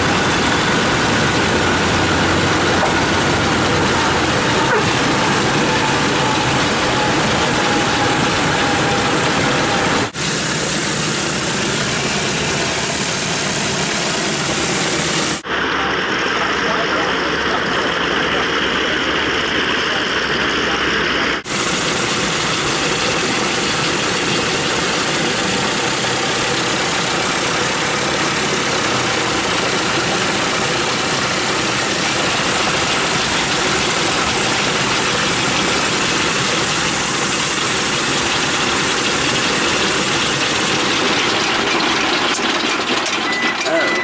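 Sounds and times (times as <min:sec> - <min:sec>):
aircraft engines running: 0:00.0 - 0:44.0.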